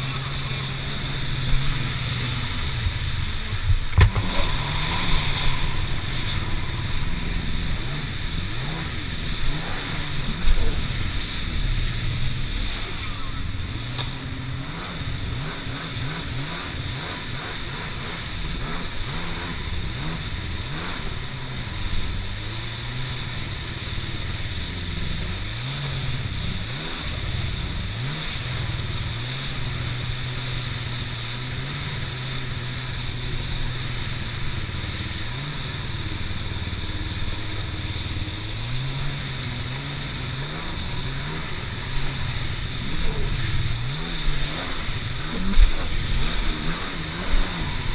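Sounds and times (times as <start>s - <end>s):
jet ski engine: 0.0s - 47.9s
spray and rushing water: 0.0s - 47.9s.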